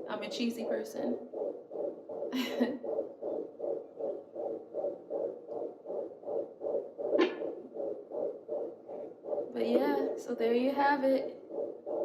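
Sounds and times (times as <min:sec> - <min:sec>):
fetal heartbeat whooshing pulses: 0:00.0 - 0:12.0.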